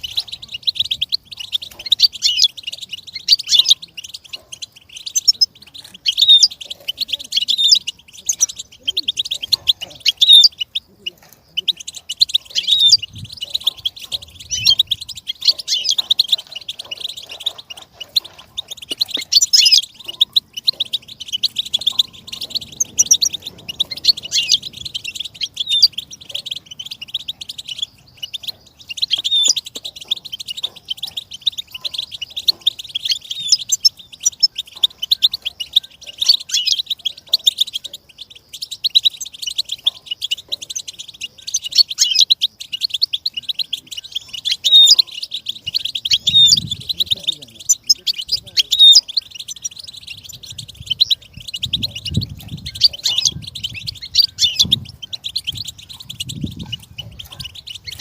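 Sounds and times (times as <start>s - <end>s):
goldfinch singing: 0.0s - 58.0s.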